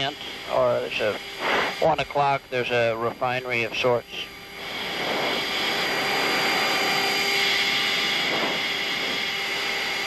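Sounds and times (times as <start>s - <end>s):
jet aircraft cockpit noise: 0.0s - 10.0s.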